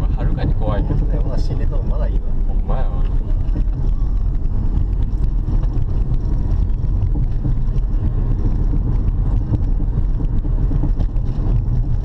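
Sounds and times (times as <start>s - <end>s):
road and drivetrain rumble: 0.0s - 12.0s.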